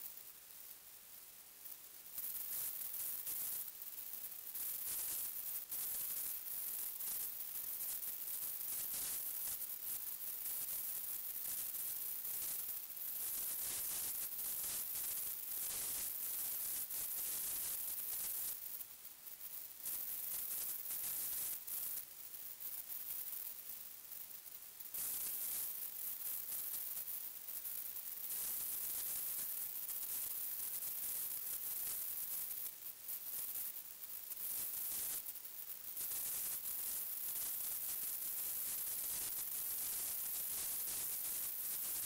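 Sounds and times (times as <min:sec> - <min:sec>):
steady high hiss: 0:00.0 - 0:42.0.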